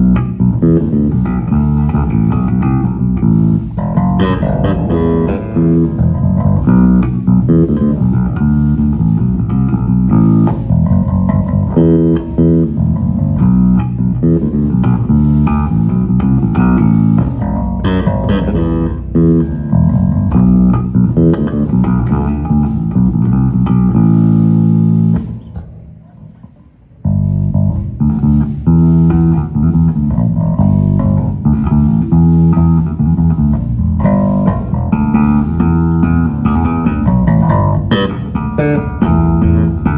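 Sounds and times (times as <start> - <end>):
bass guitar plucked notes: 0.0 - 39.9.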